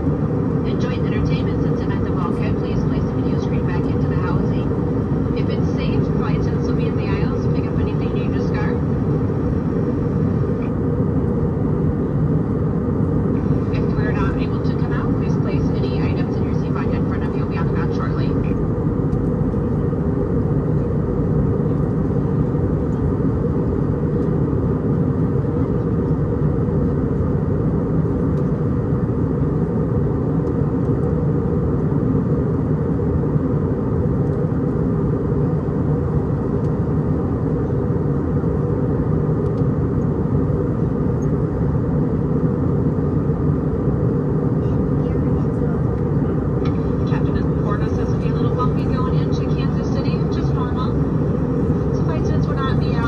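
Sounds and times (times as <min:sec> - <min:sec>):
airflow rushing over aircraft: 0:00.0 - 0:53.0
jet engines humming: 0:00.0 - 0:53.0.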